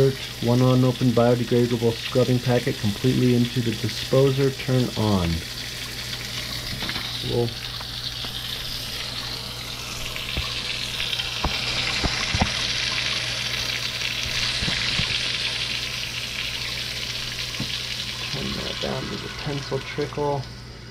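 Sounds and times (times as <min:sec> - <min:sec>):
faucet water splashing into sink: 0:00.0 - 0:20.7.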